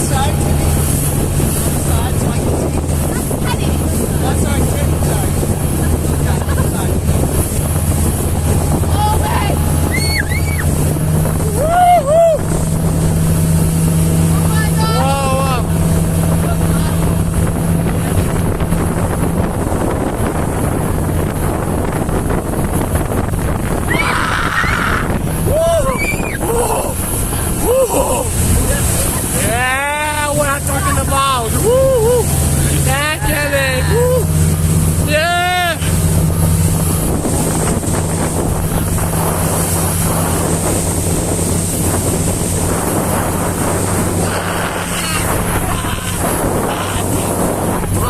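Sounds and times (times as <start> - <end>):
motorboat engine running: 0.0 - 48.0
water rushing past hull: 0.0 - 48.0
wind noise on microphone: 0.0 - 48.0.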